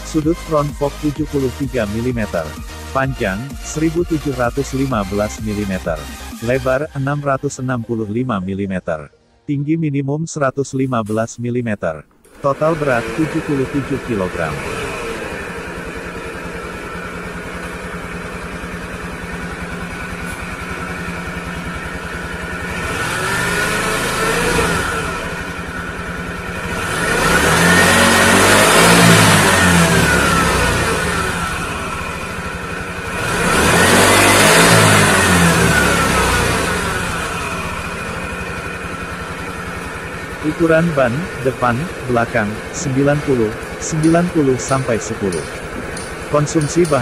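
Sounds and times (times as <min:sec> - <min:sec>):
scooter engine idling and revving: 0:00.0 - 0:07.1, 0:12.2 - 0:47.0.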